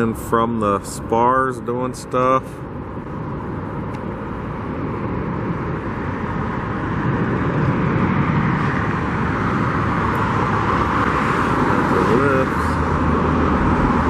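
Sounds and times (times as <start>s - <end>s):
vehicles passing on busy road: 0.0s - 14.0s.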